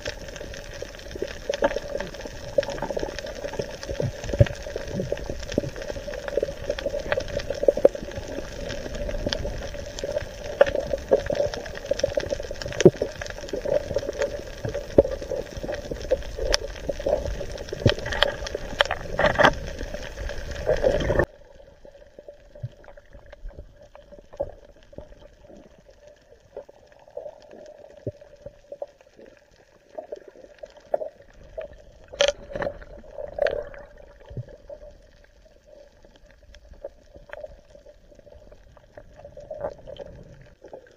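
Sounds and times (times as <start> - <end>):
clicks and crackles: 0.0 - 40.9
muffled underwater rush and bubbling: 0.0 - 40.9.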